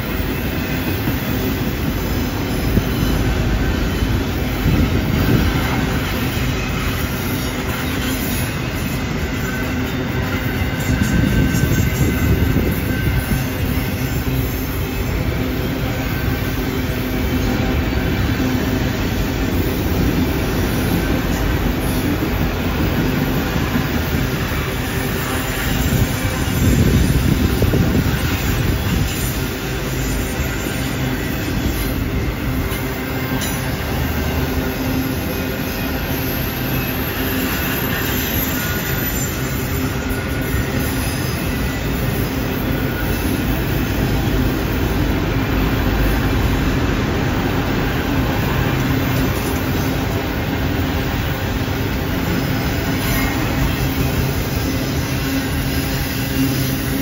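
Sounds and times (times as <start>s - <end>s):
freight train cars rolling: 0.0s - 57.0s
high wheel squeal: 0.0s - 57.0s.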